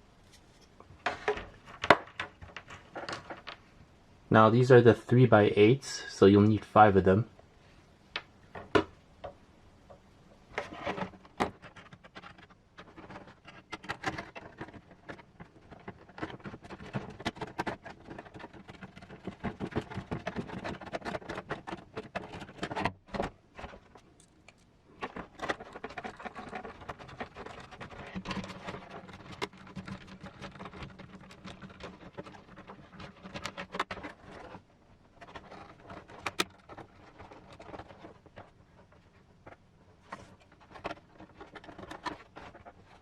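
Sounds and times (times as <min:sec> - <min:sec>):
plastic parts clicking and rattling: 0:00.3 - 0:03.7, 0:08.1 - 0:43.0.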